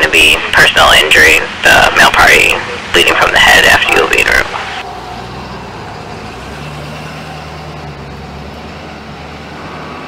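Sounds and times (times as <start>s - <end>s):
ambulance engine humming: 0.0s - 10.0s.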